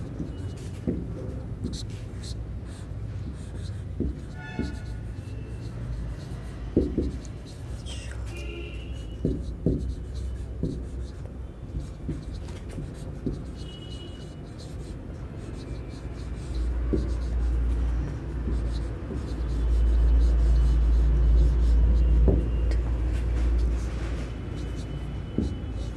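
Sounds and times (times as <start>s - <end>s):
marker scratching on whiteboard: 0.0s - 25.9s
marker squeaks: 0.0s - 25.9s
marker knocking on board: 0.1s - 1.9s, 3.3s - 5.3s, 6.2s - 7.6s, 8.9s - 14.9s, 16.2s - 25.9s.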